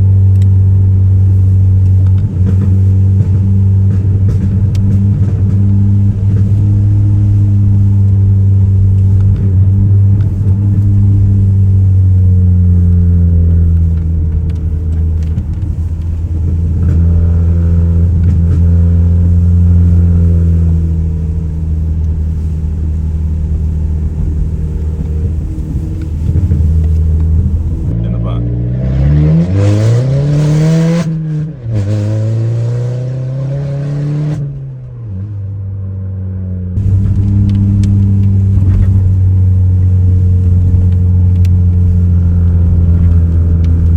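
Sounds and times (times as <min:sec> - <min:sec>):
car exhaust droning loudly: 0:00.0 - 0:43.9.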